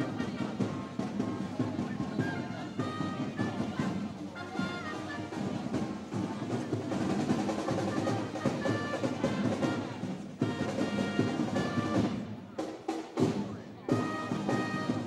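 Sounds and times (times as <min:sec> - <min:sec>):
held trumpet notes: 0:00.0 - 0:01.4, 0:02.0 - 0:06.2, 0:06.9 - 0:12.4, 0:13.9 - 0:15.0
drum rolls and beats: 0:00.0 - 0:15.0.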